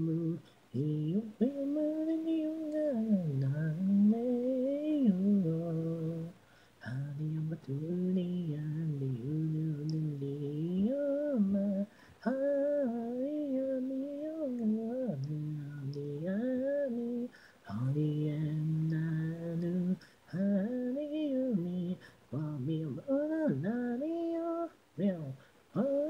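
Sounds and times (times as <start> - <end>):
woman singing unaccompanied: 0.0 - 26.0.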